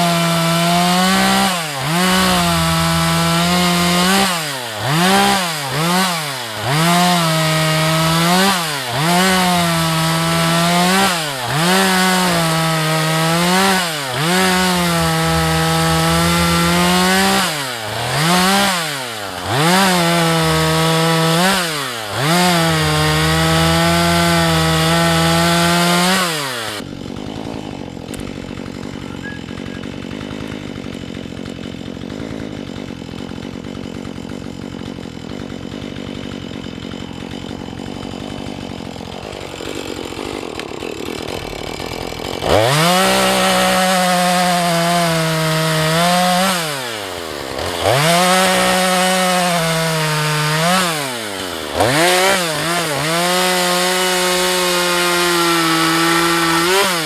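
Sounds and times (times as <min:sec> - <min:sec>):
chainsaw running at high revs: 0:00.0 - 0:57.0.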